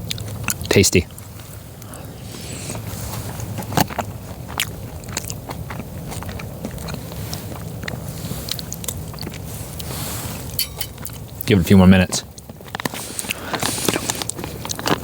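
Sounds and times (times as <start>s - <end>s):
person chewing food: 0.0s - 11.3s, 12.3s - 15.0s.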